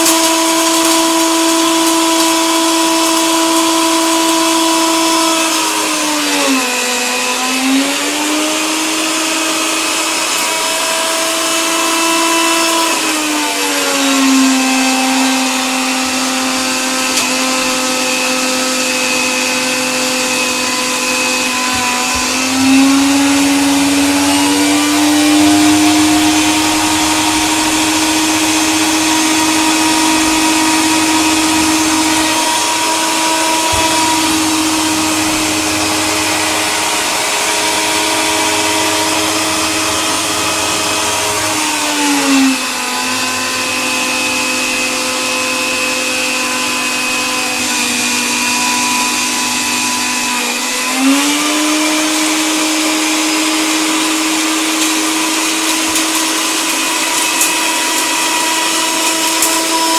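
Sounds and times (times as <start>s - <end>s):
coffee grinder motor whining: 0.0s - 59.9s.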